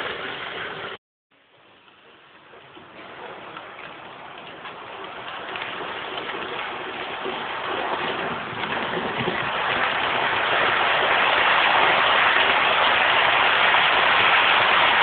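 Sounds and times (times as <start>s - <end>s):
model train running on track: 2.4s - 15.0s.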